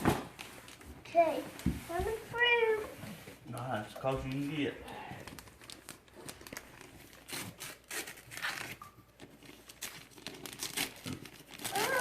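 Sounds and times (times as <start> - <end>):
paper crinkling and tearing: 2.4 - 12.0.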